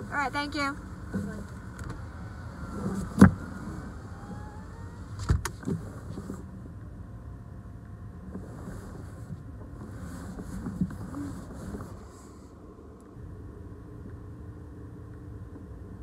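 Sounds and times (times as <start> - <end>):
car engine and rolling rumble: 0.0 - 16.0.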